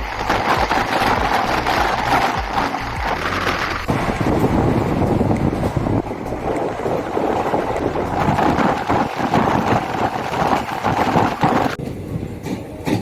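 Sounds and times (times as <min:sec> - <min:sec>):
passenger train running: 0:00.0 - 0:13.0
wind on microphone: 0:00.0 - 0:13.0.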